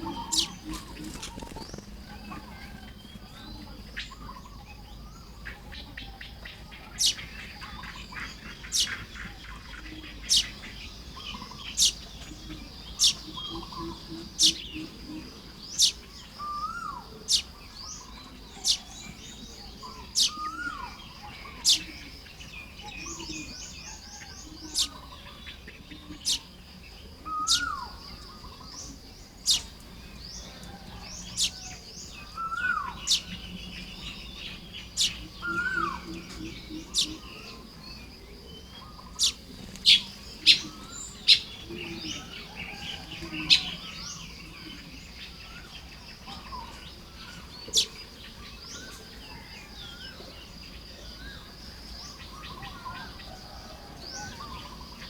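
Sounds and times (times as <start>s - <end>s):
weaver birds calling: 0.0s - 55.0s.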